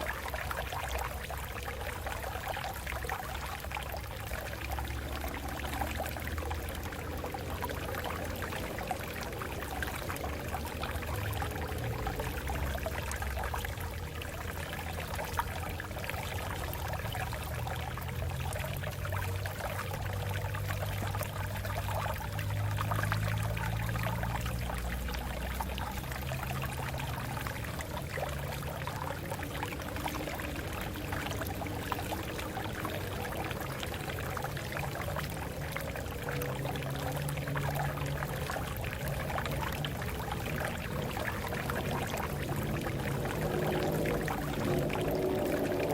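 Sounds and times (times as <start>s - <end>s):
water splashing over rocks: 0.0s - 45.9s.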